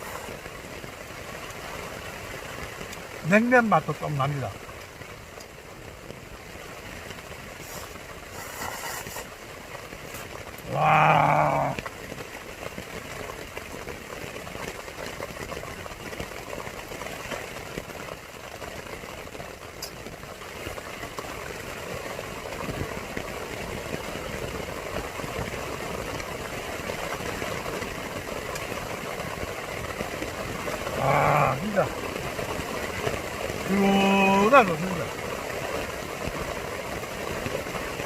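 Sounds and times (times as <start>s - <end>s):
rain falling on a tent: 0.0s - 38.0s.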